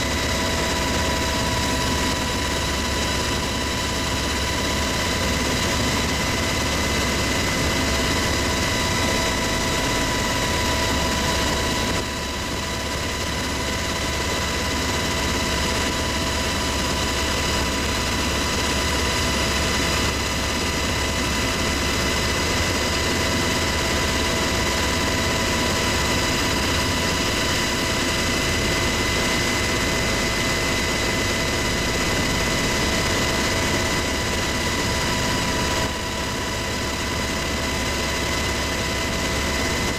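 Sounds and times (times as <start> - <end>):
helicopter cabin drone: 0.0 - 39.9
high steady whine: 0.0 - 39.9.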